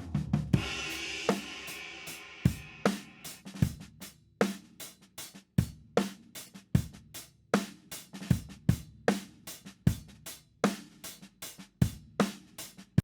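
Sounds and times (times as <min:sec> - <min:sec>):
drum kit playing steady beat: 0:00.0 - 0:13.0.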